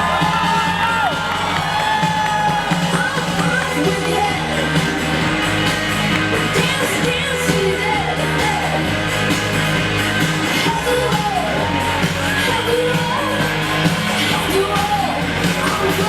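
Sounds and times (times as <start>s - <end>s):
pop-rock song with singing: 0.0s - 16.0s.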